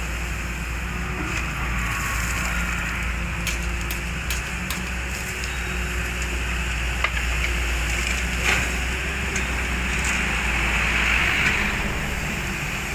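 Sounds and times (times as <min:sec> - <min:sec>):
diesel engine running under load: 0:00.0 - 0:12.9.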